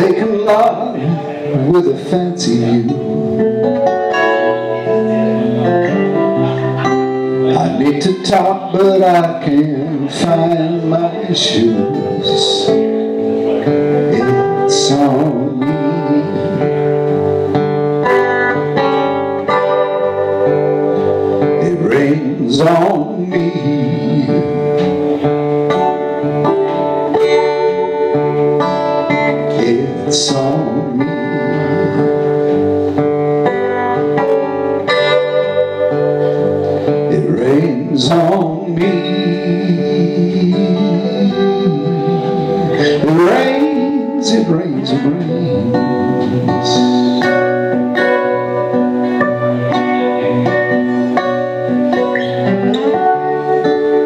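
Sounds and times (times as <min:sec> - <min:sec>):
two acoustic guitars playing: 0:00.0 - 0:54.0.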